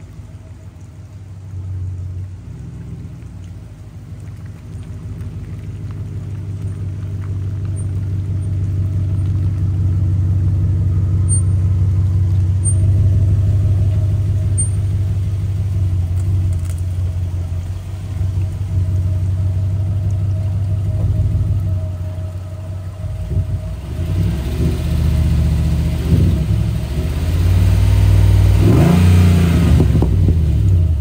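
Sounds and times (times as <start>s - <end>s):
deep engine exhaust note: 0.0s - 31.0s.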